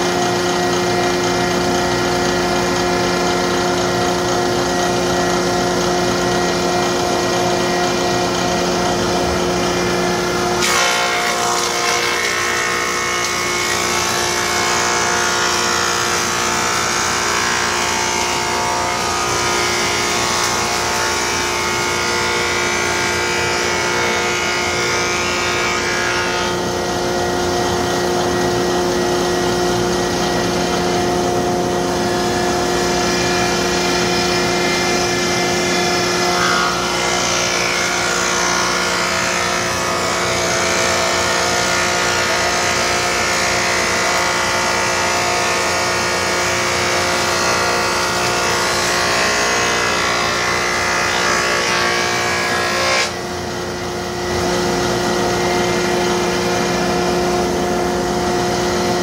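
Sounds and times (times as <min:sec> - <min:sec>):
thickness planer cutting boards: 0:00.0 - 0:59.0.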